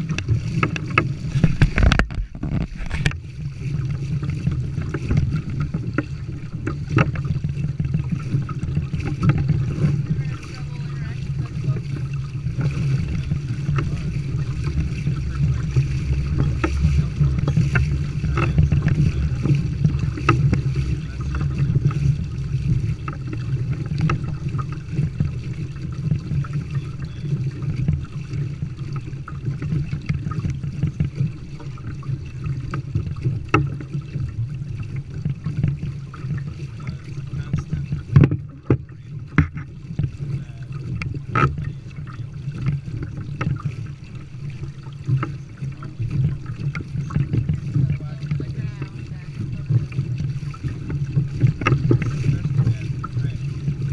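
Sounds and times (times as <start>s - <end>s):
low rumble: 0.0s - 53.9s
small splashes and knocks: 0.0s - 53.9s
water sloshing against hull: 0.0s - 53.9s.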